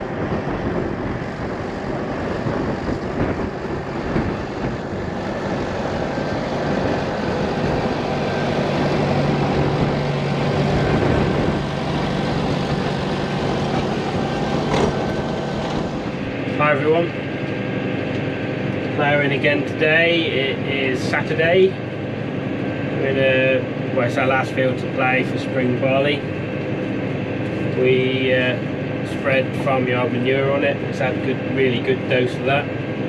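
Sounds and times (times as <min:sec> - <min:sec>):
tractor engine running under load: 0:00.0 - 0:33.0.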